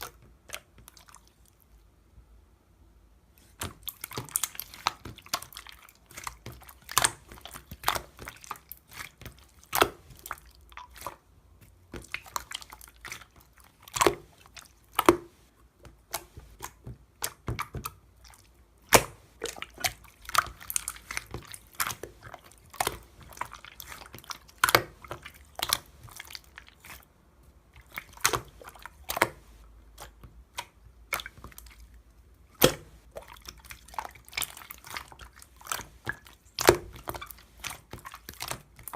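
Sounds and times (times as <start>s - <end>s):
slime squished by hand: 3.4s - 38.9s.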